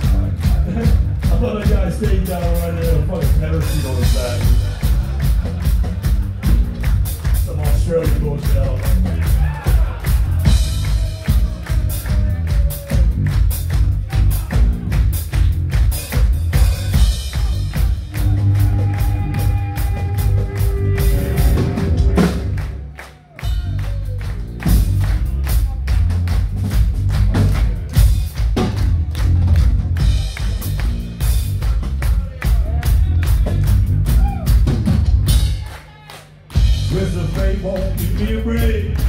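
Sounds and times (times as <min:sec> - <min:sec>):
bass guitar: 0:00.0 - 0:35.8, 0:36.5 - 0:39.0
drums: 0:00.0 - 0:39.0.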